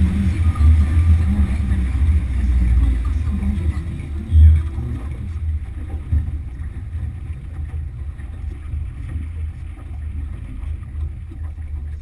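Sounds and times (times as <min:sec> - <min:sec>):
outboard motor rumbling: 0:00.0 - 0:12.0.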